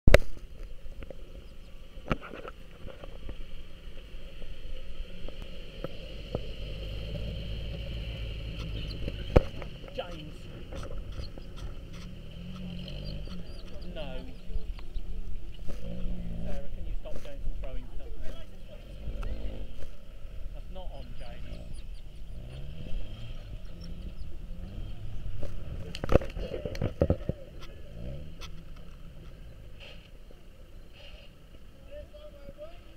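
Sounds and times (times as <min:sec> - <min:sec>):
car engine at low revs: 0:00.1 - 0:32.9.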